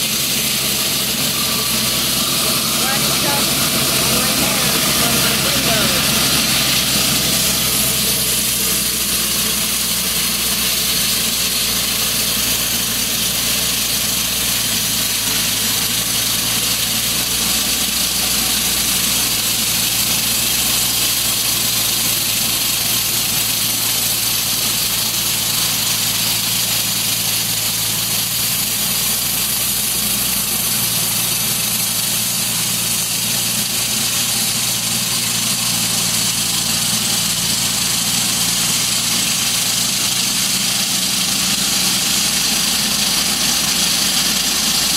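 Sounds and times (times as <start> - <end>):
concrete saw engine drone: 0.0 - 44.9
saw cutting hiss: 0.0 - 44.9.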